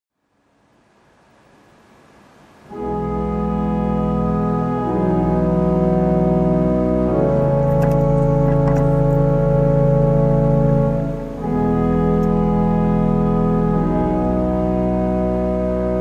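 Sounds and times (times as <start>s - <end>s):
faint hiss: 0.2s - 15.7s
slow held chords: 2.7s - 16.0s.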